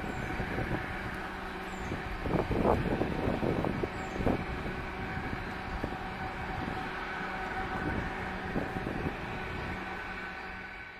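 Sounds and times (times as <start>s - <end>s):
jet engines rumbling: 0.0s - 10.9s.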